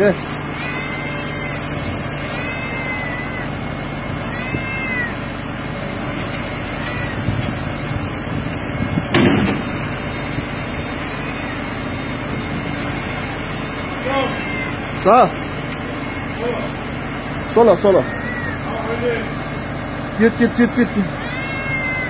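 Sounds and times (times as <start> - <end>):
cat meowing: 0.0 - 13.1, 14.0 - 16.6, 17.4 - 19.0, 21.1 - 22.0
engine hum: 0.0 - 22.0.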